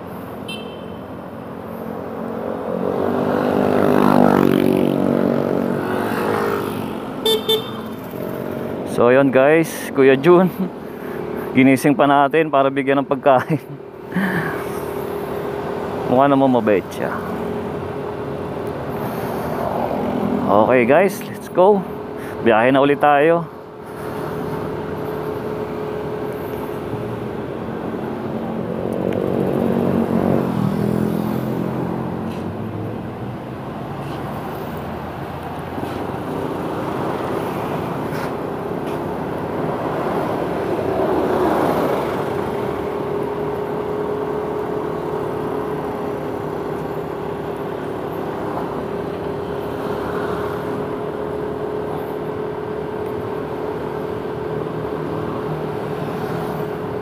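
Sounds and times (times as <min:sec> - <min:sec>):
road and traffic noise: 0:00.0 - 0:57.0.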